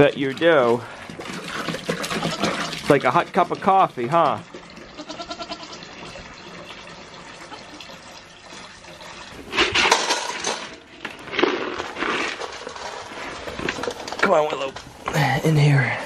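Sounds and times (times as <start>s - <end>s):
water pouring into plastic bucket: 0.0s - 14.2s.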